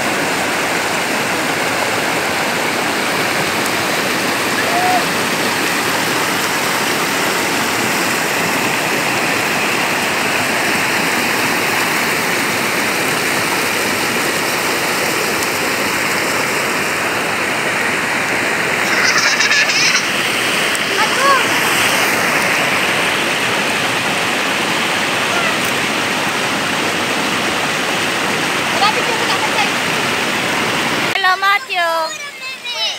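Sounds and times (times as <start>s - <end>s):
water rushing over rocks: 0.0s - 32.9s.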